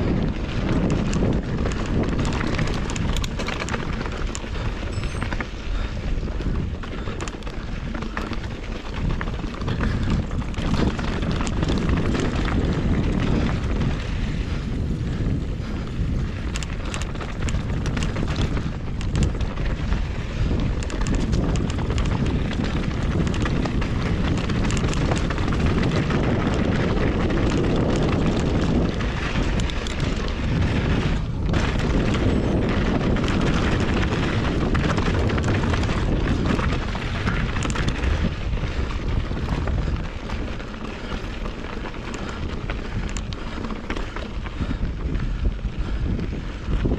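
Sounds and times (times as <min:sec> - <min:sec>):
rumble of riding on dirt trail: 0:00.0 - 0:46.9
wind buffeting microphone: 0:00.0 - 0:46.9.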